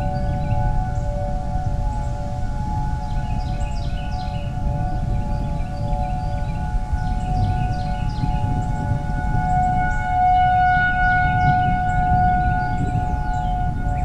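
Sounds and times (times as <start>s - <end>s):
warning sirens wailing: 0.0s - 14.0s.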